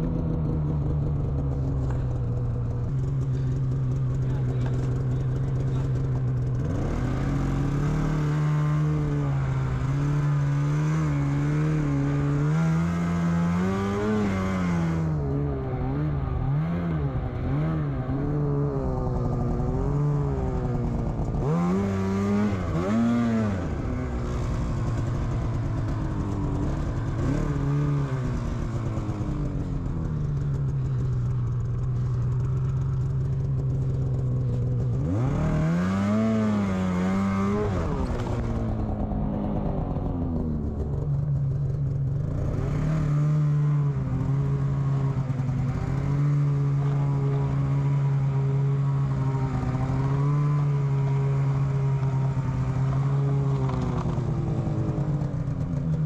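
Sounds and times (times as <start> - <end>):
snowmobile engine revving and idling: 0.0 - 56.0.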